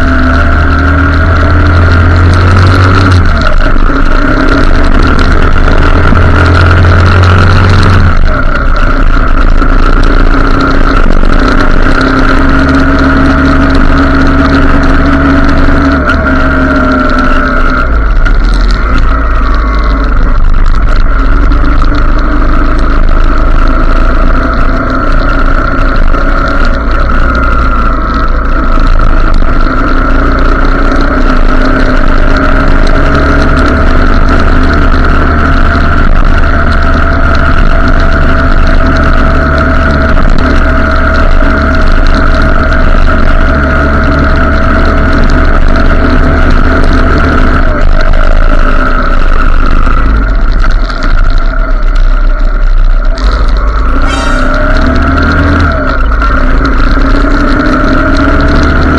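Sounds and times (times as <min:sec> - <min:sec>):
motorcycle engine running: 0:00.0 - 0:58.9
wind rumble on microphone: 0:00.0 - 0:58.9.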